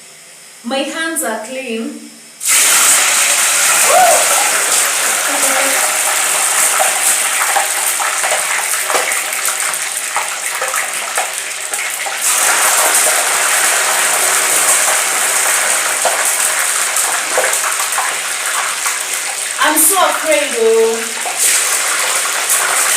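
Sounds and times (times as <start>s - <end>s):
chicken deep frying in hot oil: 2.4s - 22.9s.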